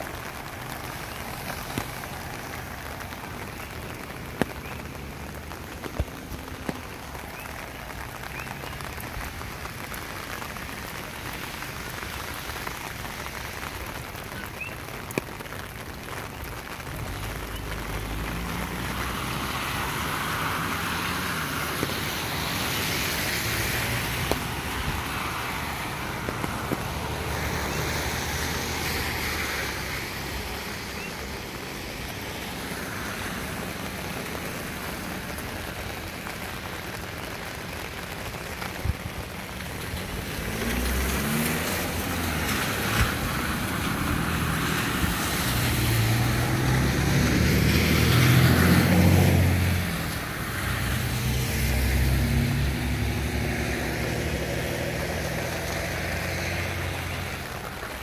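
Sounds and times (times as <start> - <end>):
rain falling on pavement: 0.0 - 58.0
raindrops ticking: 0.0 - 58.0
tyres hissing on wet road: 0.0 - 58.0.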